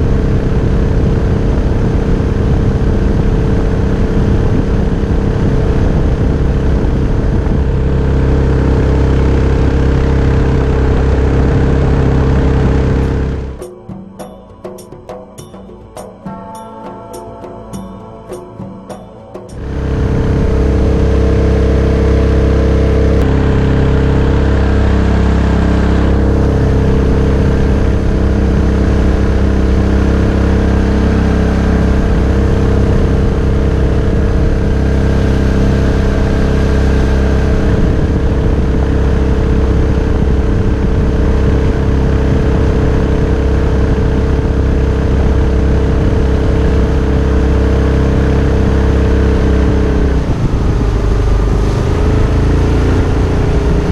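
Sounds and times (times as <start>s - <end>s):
boat engine running: 0.0s - 53.9s.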